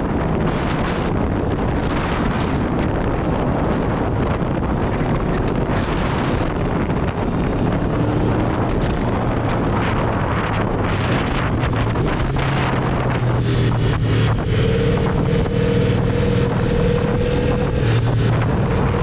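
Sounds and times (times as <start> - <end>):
wind noise on microphone: 0.0 - 19.0
faint motorcycle engine: 3.2 - 19.0.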